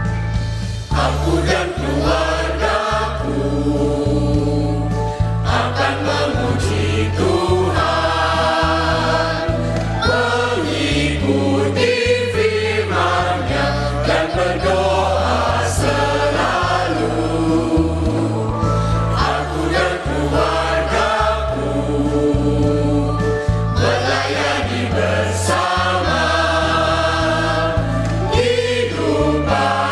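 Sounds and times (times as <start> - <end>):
instrumental accompaniment: 0.0 - 29.9
choir singing a hymn: 0.8 - 29.9.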